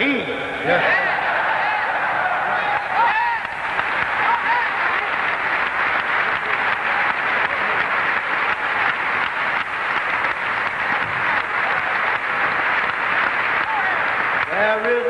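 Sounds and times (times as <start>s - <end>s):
audience applauding: 0.6s - 15.0s.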